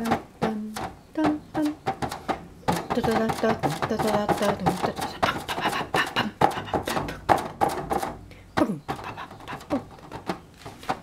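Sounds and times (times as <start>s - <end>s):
fingertips drumming on cling wrap: 0.0s - 11.0s.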